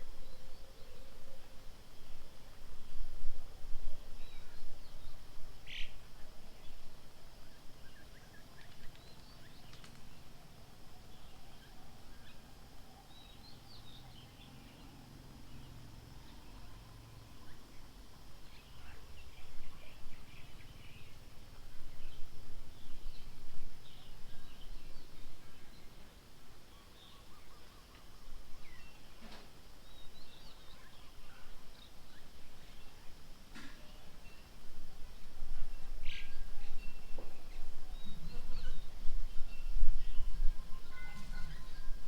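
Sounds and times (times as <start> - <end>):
small birds chirping: 7.5 - 42.0.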